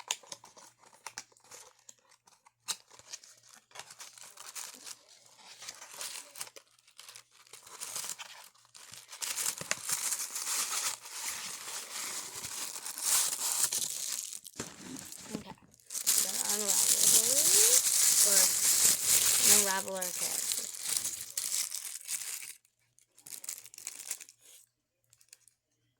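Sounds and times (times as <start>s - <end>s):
packaging tearing and crinkling: 0.0s - 22.6s, 23.2s - 24.6s.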